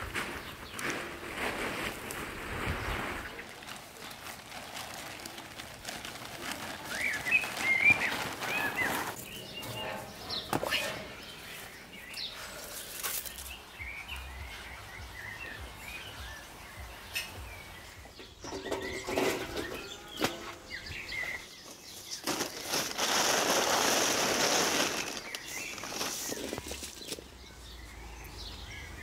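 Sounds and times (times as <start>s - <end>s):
plastic tarp crackling: 0.0s - 17.8s, 18.4s - 27.3s
birds chirping: 0.0s - 29.0s.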